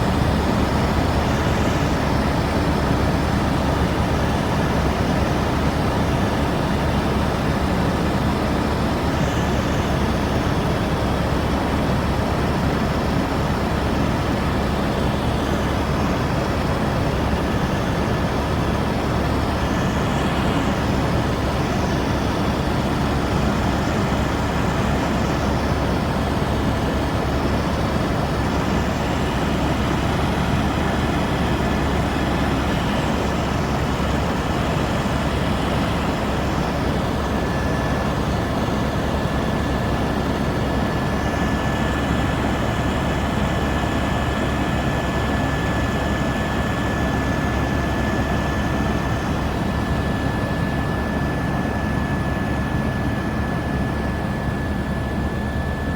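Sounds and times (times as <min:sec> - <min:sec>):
helicopter droning in flight: 0:00.0 - 0:55.9
thin steady whine: 0:00.0 - 0:55.9.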